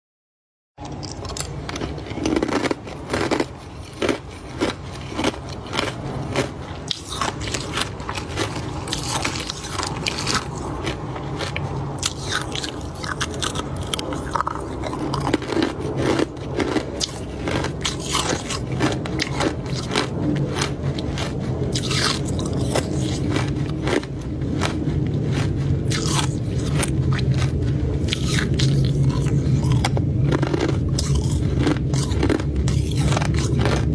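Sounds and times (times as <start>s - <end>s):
ice cubes being chewed: 0.8s - 33.9s
steady low hum: 0.8s - 33.9s.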